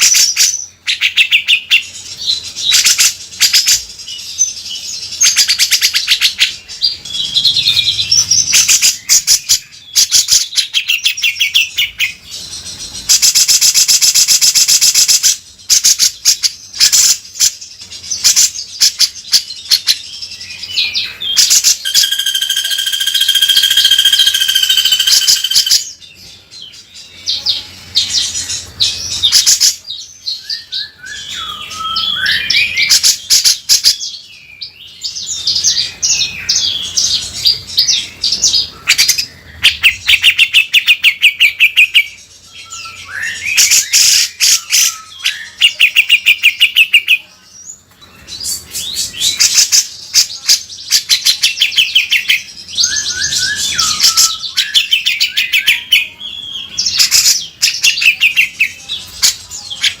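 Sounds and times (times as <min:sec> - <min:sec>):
bulbul singing rattling trills: 0:00.0 - 1:00.0.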